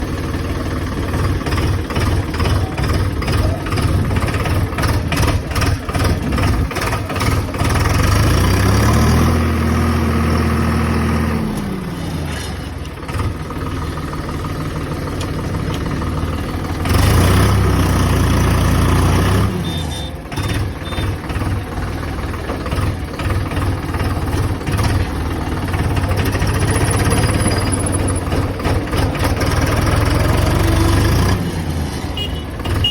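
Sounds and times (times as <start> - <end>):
tractor engine revving: 0.0 - 32.9.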